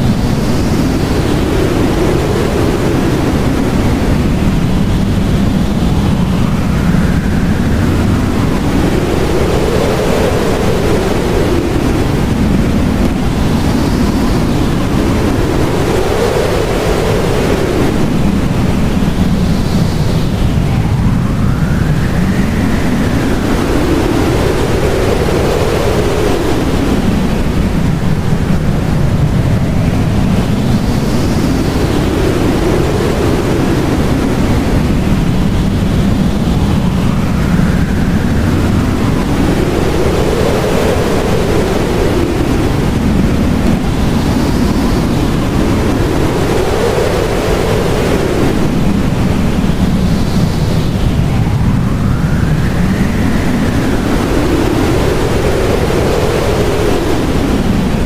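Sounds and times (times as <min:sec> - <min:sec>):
blizzard wind howling: 0:00.0 - 0:58.0.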